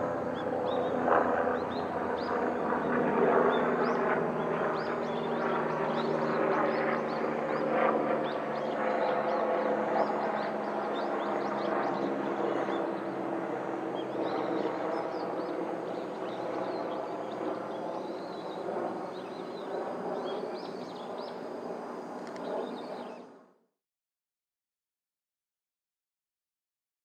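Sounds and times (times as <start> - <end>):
birds chirping: 0.3 - 23.3.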